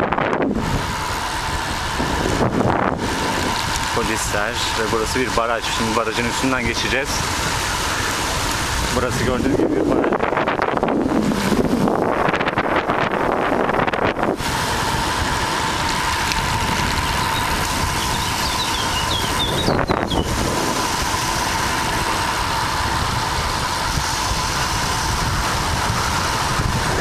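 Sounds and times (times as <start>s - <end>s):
thin steady whine: 0.0s - 27.0s
wind rushing over microphone: 0.0s - 27.0s.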